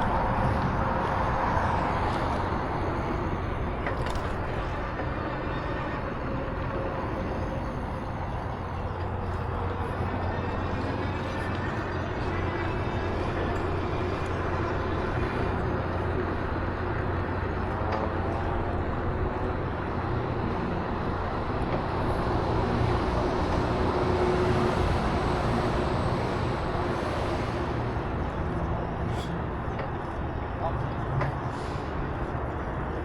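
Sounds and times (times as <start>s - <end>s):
vehicle road rumble: 0.0s - 33.0s.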